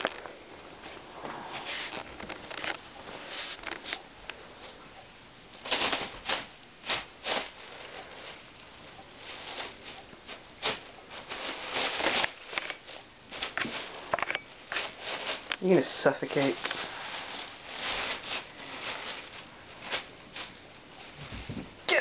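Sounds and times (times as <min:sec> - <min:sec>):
plastic bag crinkling: 0:00.0 - 0:04.7, 0:05.6 - 0:08.4, 0:09.2 - 0:21.7.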